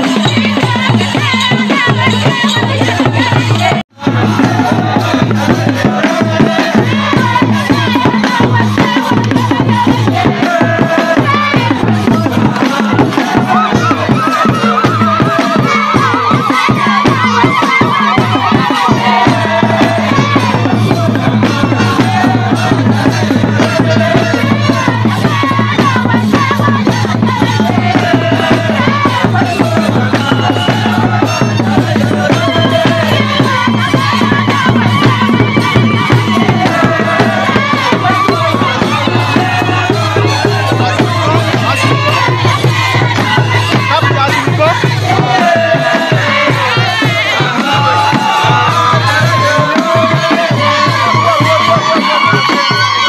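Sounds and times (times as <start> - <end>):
drums beaten with sticks: 0.0 - 53.0
voices singing: 0.0 - 53.0.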